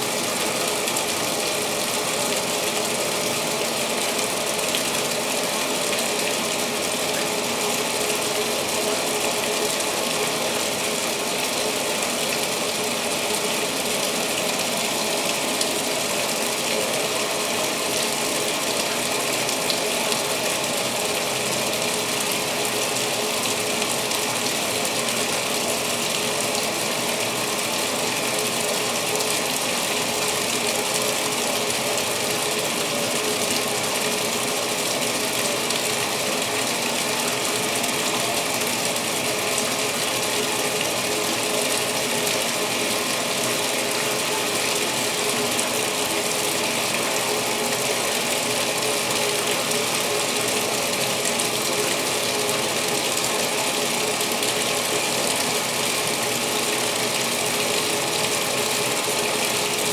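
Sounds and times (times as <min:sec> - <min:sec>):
water pouring into washing machine: 0:00.0 - 0:59.9.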